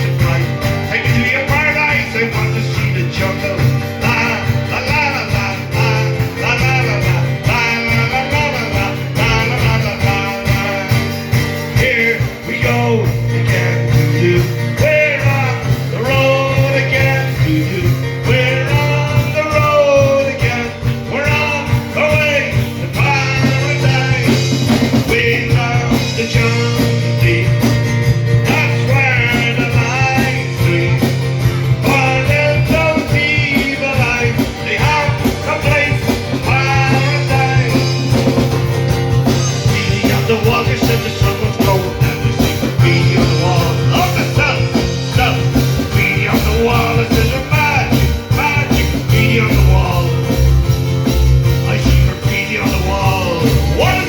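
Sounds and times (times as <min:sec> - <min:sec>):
bass: 0:00.0 - 0:54.0
guitar: 0:00.0 - 0:54.0
person singing: 0:00.0 - 0:54.0
steady drum beat: 0:00.0 - 0:54.0.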